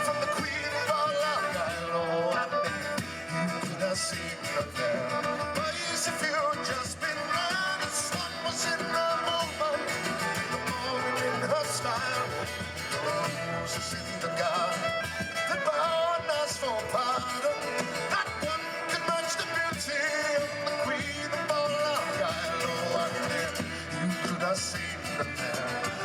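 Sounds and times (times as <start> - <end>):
instrumental folk music: 0.0 - 26.0.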